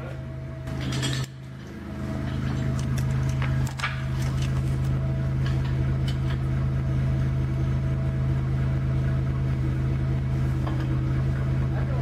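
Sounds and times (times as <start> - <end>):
forklift engine idling: 0.0 - 12.0.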